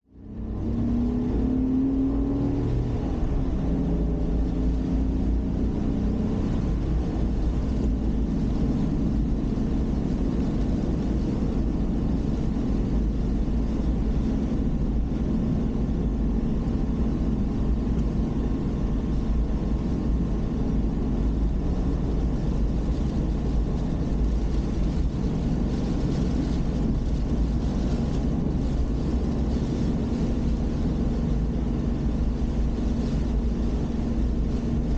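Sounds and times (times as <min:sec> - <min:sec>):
car engine rumble: 0:00.0 - 0:34.9
road noise: 0:00.0 - 0:34.9.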